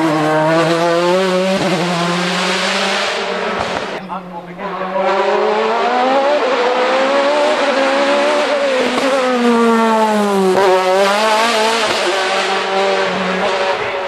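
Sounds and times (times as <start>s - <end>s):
race car engine passing by: 0.0s - 14.0s.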